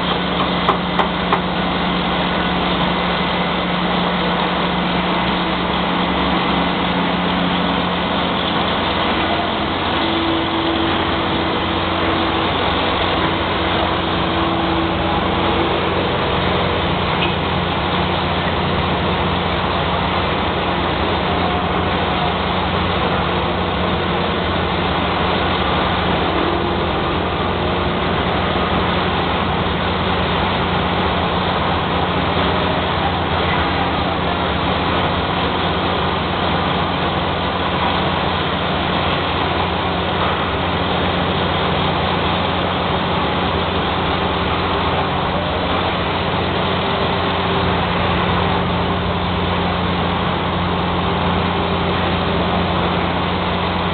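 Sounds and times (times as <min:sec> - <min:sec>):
crane diesel engine running: 0:00.0 - 0:53.9.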